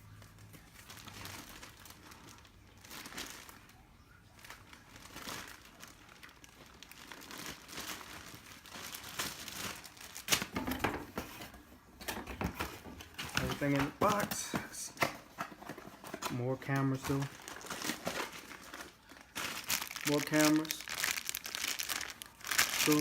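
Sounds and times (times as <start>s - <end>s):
packaging crinkling: 0.0s - 23.0s.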